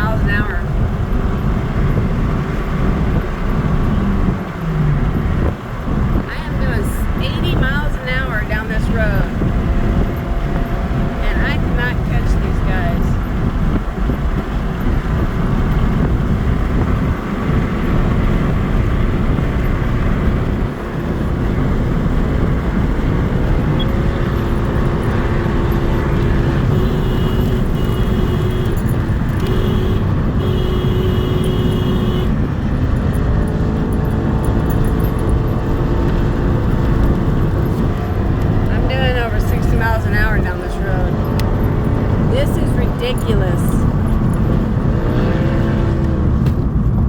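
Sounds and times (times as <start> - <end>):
car traffic: 0.0 - 47.0
strong wind buffeting microphone: 0.0 - 47.0.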